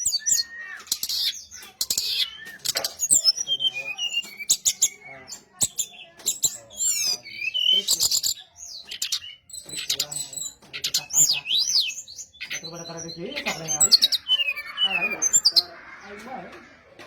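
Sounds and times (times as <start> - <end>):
bird song with whistles and clicks: 0.0 - 15.7.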